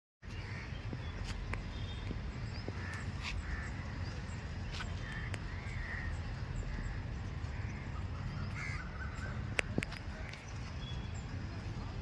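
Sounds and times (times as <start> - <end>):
birds calling: 0.2 - 11.9
steady low rumble: 0.2 - 12.0.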